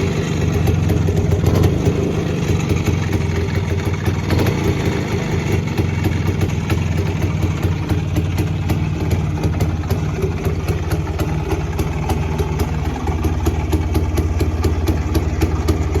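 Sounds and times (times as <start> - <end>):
two-stroke engine idling: 0.0 - 16.0.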